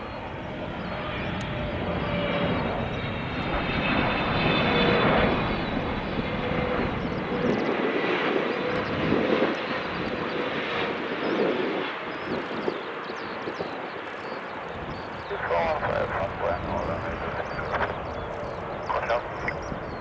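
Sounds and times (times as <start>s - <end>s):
jet engines roaring with whine: 0.0s - 20.0s.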